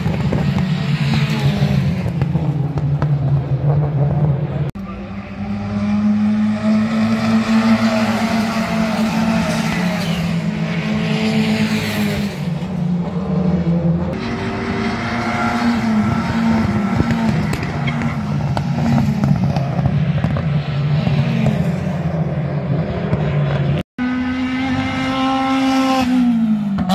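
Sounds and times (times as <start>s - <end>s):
race car engines passing: 0.0s - 26.9s.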